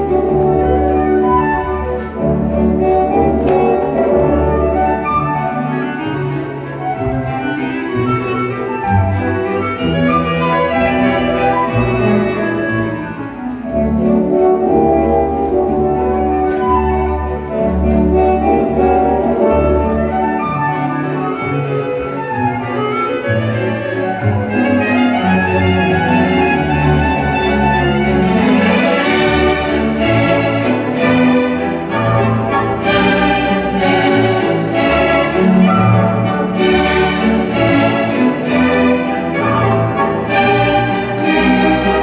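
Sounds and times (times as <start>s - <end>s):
orchestral music with strings: 0.0s - 42.0s.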